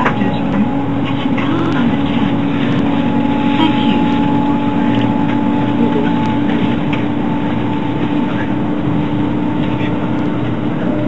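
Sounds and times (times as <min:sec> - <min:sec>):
train rumbling inside carriage: 0:00.0 - 0:11.0.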